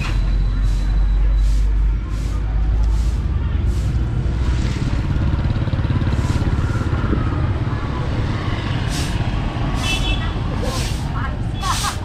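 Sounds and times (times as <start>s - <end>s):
hissy street noise bursts: 0.0s - 12.0s.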